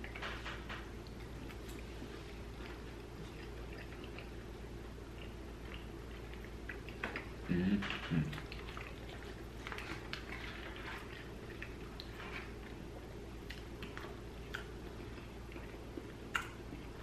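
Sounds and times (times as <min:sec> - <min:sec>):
low room hum: 0:00.0 - 0:17.0
person chewing food: 0:00.0 - 0:17.0.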